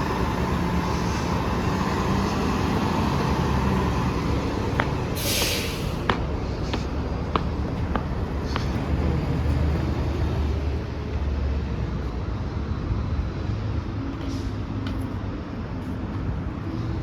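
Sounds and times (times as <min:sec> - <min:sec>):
bus engine rumbling: 0:00.0 - 0:17.0
street traffic: 0:00.0 - 0:17.0.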